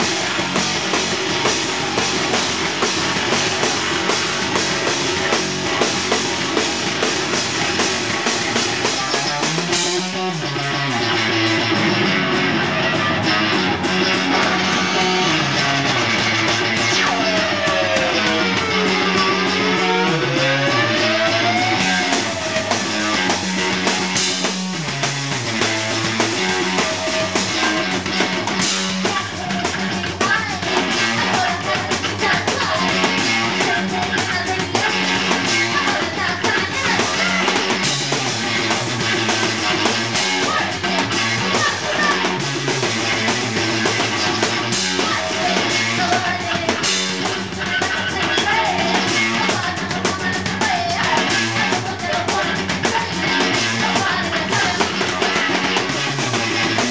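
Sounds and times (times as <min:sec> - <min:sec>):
drum kit: 0:00.0 - 0:56.9
electric guitar riff: 0:00.0 - 0:56.9.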